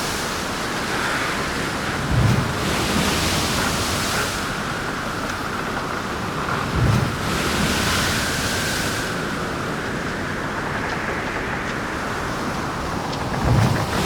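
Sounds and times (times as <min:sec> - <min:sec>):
helicopter turbine and rotor noise: 0:00.0 - 0:14.0.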